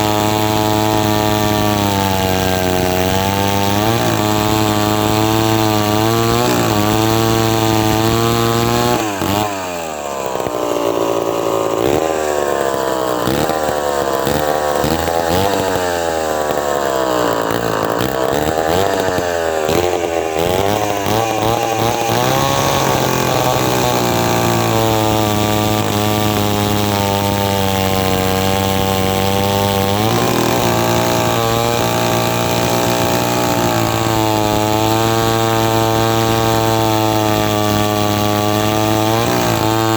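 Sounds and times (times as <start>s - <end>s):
two-stroke chainsaw running: 0.0s - 39.9s.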